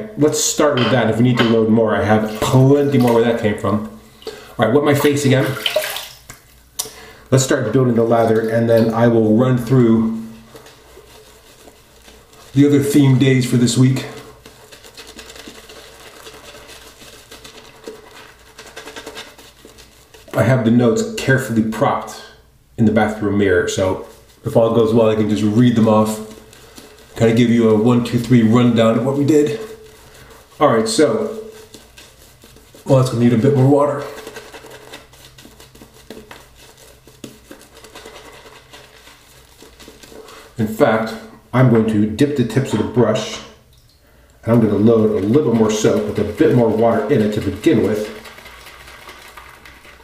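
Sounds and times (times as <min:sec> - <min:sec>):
shaving brush wet swishing: 0:01.9 - 0:06.3, 0:07.4 - 0:22.1, 0:23.0 - 0:43.4, 0:44.4 - 0:50.0.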